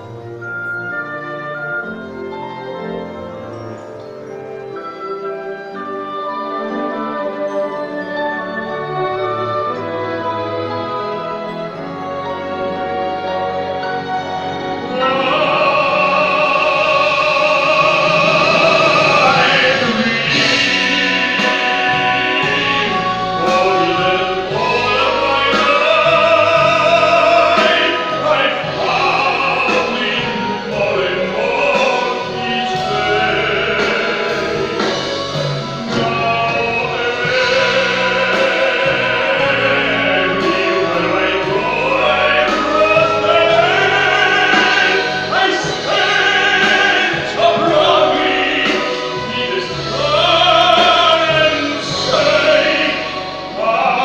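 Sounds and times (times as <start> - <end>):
symphony orchestra: 0.0 - 54.0
tenor singing with vibrato: 0.0 - 54.0.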